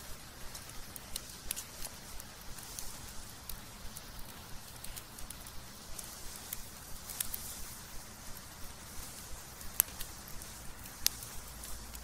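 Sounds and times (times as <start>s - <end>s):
charcoal crackling and popping: 0.0s - 12.0s
low steady hiss: 0.0s - 12.0s.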